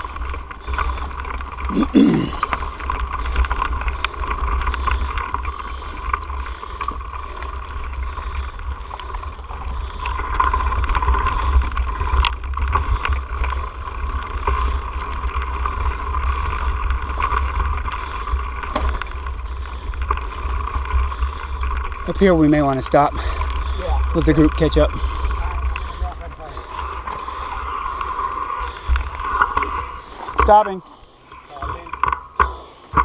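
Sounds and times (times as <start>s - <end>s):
bike rattling clicks and knocks: 0.0s - 33.0s
tyres crunching over loose rock: 0.0s - 33.0s.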